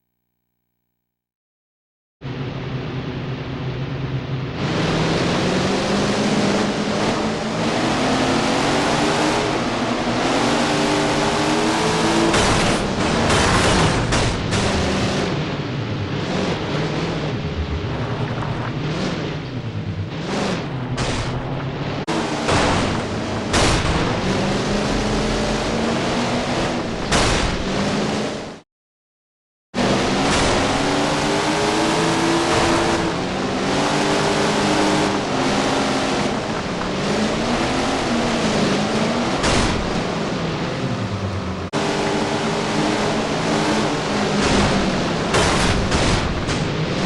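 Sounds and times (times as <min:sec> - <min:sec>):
race car engines: 0:02.2 - 0:28.6, 0:29.8 - 0:47.0.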